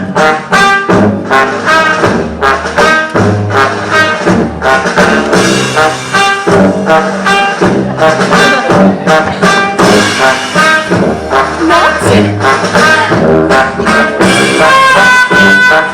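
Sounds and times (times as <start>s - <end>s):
jazzy brass band music: 0.0s - 15.9s.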